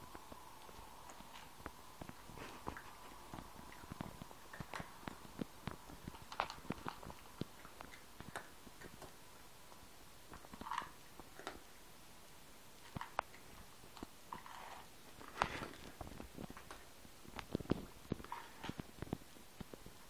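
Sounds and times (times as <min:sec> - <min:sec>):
cat crunching dry kibble: 0:00.0 - 0:11.8, 0:12.8 - 0:19.8.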